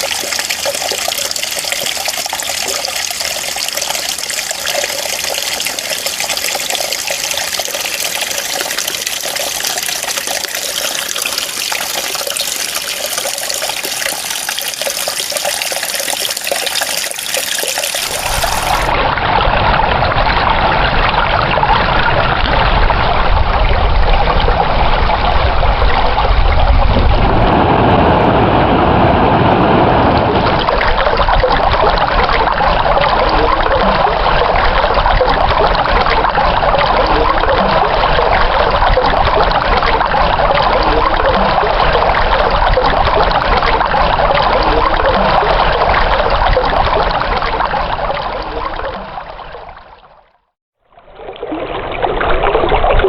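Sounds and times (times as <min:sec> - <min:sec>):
running water trickling and rushing: 0:00.0 - 0:27.2, 0:30.1 - 0:53.0.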